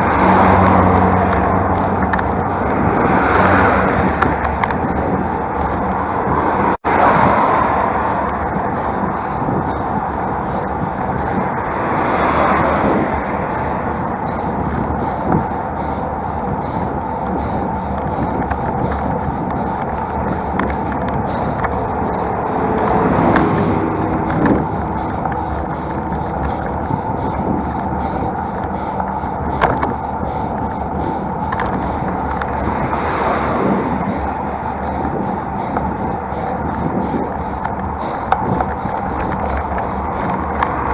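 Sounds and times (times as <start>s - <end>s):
bike road noise: 0.0s - 40.9s
rushing wind: 0.0s - 40.9s.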